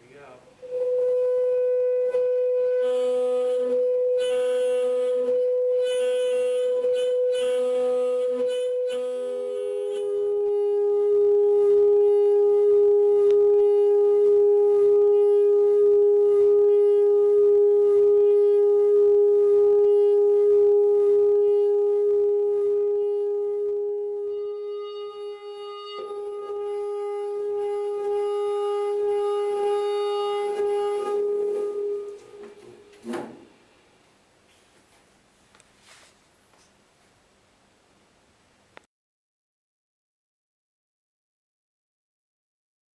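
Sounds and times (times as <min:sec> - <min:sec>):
steady buzzy tone: 0:00.0 - 0:38.9.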